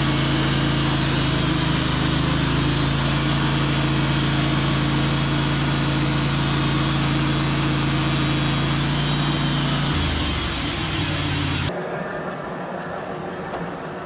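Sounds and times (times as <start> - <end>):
saw hissing cut: 0.0 - 11.7
sawmill engine running: 0.0 - 11.7.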